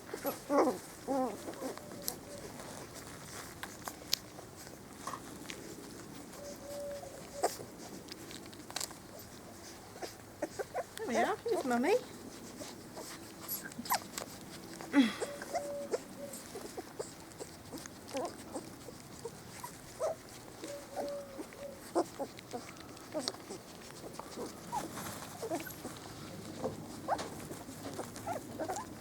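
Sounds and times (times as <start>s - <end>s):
puppies whimpering and squeaking: 0.0s - 29.0s.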